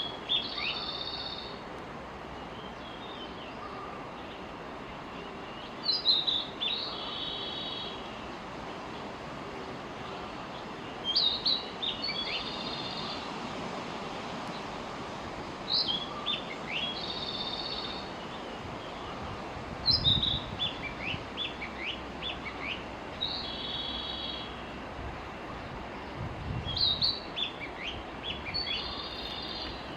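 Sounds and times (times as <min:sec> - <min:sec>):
steady background hiss: 0:00.0 - 0:29.9.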